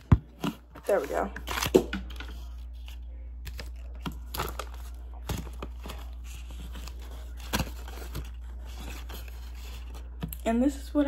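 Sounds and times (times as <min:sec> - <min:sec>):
steady low hum: 0:00.0 - 0:11.0
paper rustling and crinkling: 0:00.4 - 0:10.3.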